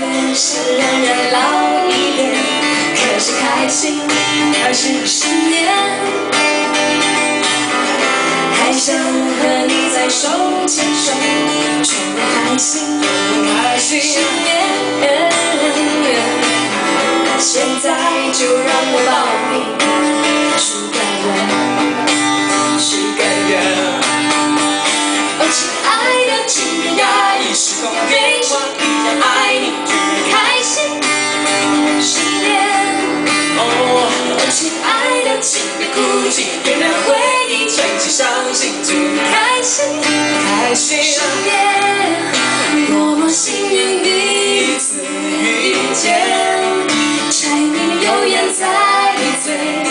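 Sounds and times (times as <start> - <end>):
woman singing: 0.0 - 7.5, 8.4 - 49.9
strummed acoustic guitar: 0.0 - 49.9.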